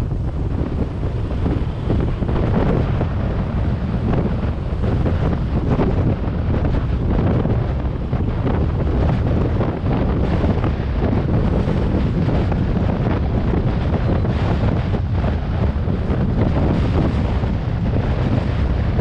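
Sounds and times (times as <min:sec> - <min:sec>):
engine and traffic noise: 0:00.0 - 0:19.0
wind buffeting microphone: 0:00.0 - 0:19.0.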